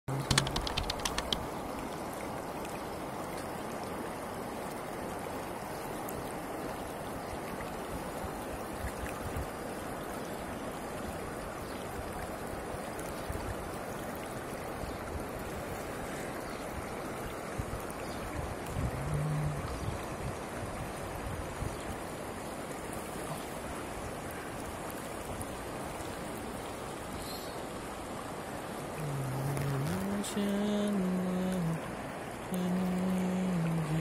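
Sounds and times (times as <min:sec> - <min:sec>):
river flowing over stones: 0:00.1 - 0:34.0.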